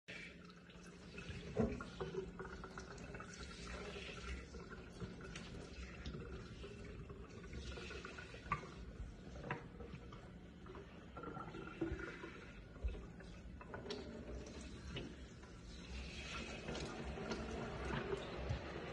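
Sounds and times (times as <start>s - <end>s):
faucet running into sink: 0.1s - 18.9s.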